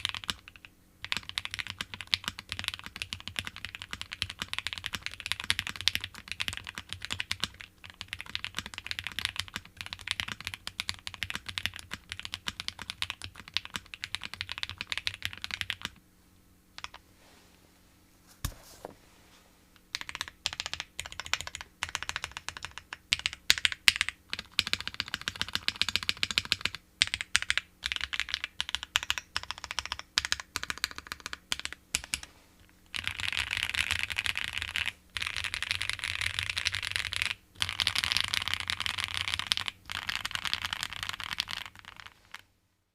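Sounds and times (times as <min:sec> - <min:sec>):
typing on mechanical keyboard: 0:00.0 - 0:16.0, 0:19.9 - 0:32.3, 0:32.9 - 0:42.4.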